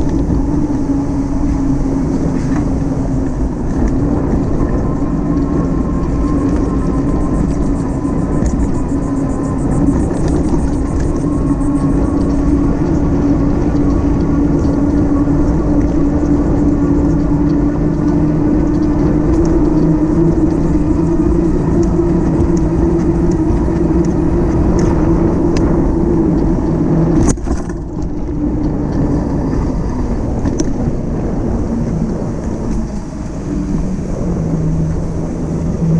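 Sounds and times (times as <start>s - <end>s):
motor-like hum: 0.0s - 35.9s
wind and road noise: 0.0s - 35.9s.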